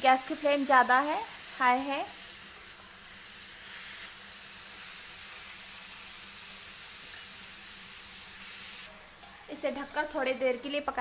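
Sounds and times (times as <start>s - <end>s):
beetroot sizzling in pan: 0.0s - 11.0s.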